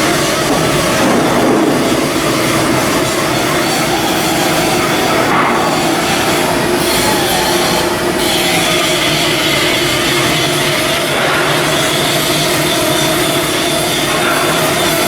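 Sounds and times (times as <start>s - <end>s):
machinery with whining tones: 0.0s - 15.0s.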